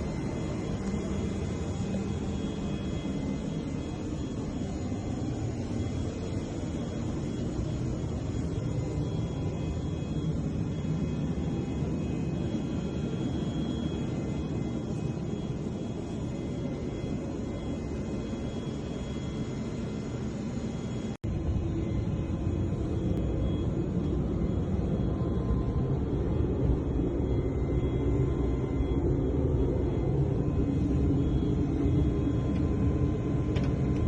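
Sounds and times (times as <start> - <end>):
faint whining tones: 0.0 - 34.0
jet aircraft rumble: 0.0 - 34.0.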